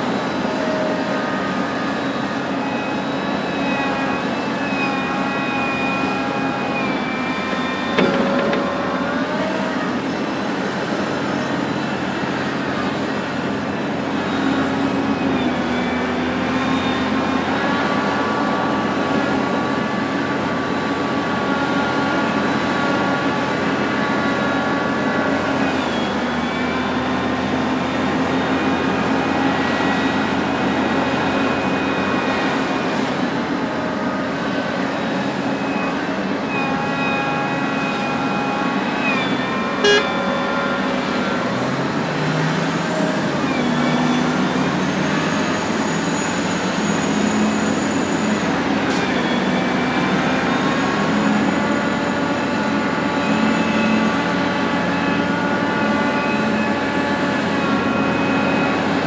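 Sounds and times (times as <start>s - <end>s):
excavator diesel engine running: 0.0s - 59.0s
hydraulic whine: 0.0s - 59.0s.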